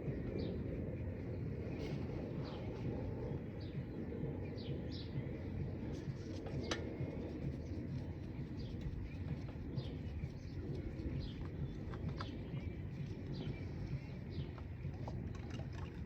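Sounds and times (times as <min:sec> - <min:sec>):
steady low rumble: 0:00.0 - 0:16.0
small bird chirping: 0:01.4 - 0:15.0.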